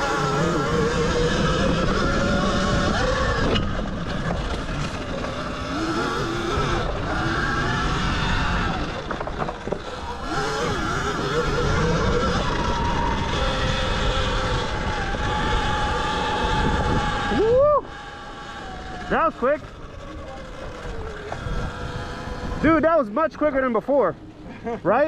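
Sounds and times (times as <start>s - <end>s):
electric motorbike motor whine: 0.0s - 25.0s
wind and tyre noise: 0.0s - 25.0s.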